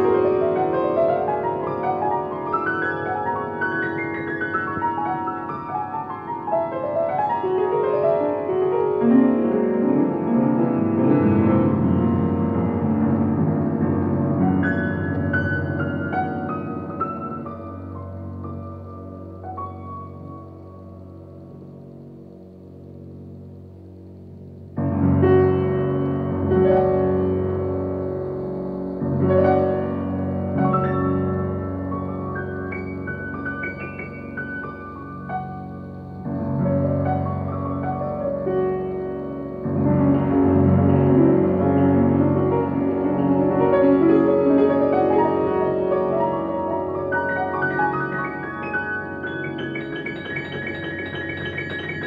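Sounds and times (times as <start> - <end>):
out-of-tune upright piano: 0.0 - 52.0.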